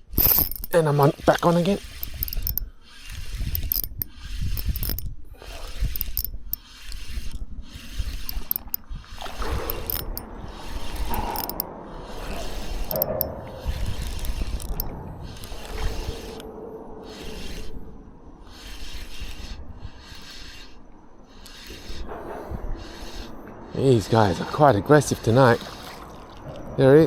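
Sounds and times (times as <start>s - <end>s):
fishing reel winding: 0.0s - 16.4s, 17.0s - 17.8s, 18.4s - 26.4s.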